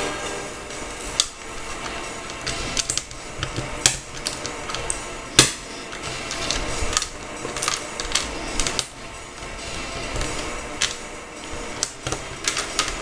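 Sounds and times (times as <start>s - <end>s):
plastic pieces clicking and clattering: 1.1s - 13.0s.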